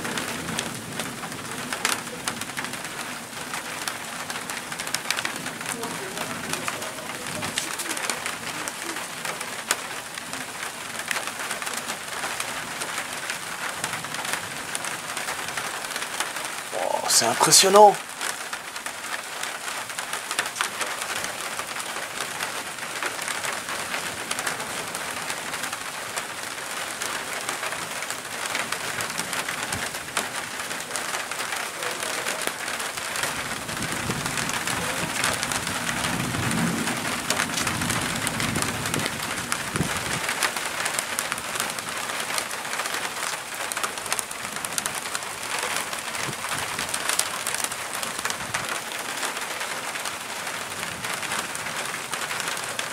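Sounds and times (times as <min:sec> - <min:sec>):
rain patter: 0:00.0 - 0:52.9
wind: 0:00.0 - 0:52.9.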